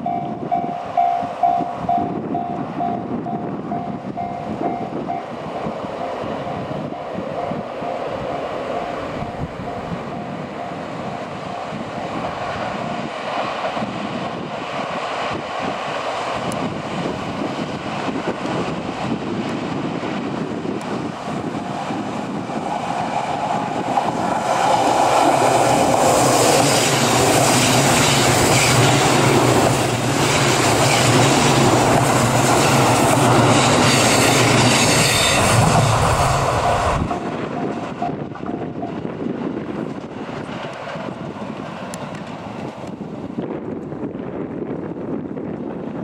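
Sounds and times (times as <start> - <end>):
train wheels rolling: 0.0 - 44.2
diesel train engines: 0.0 - 46.0.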